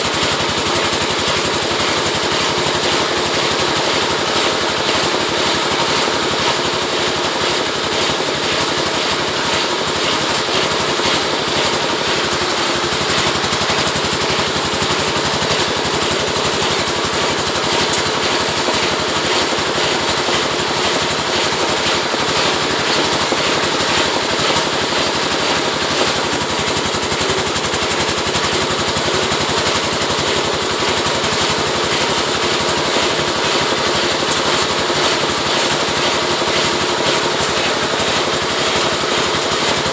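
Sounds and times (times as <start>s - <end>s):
scraping machine rattling: 0.1s - 39.9s.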